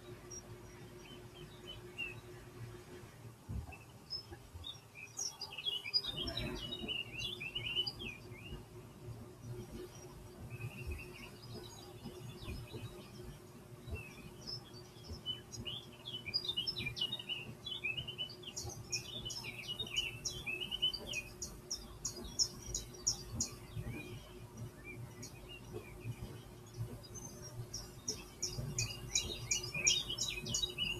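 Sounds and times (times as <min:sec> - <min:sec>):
birds chirping from speakers: 0:00.0 - 0:30.9
steady low hum: 0:00.0 - 0:30.9.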